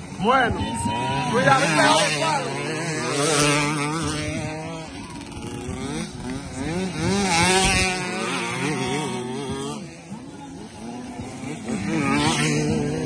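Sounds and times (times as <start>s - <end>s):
motorcycle engines revving past: 0.0s - 13.0s.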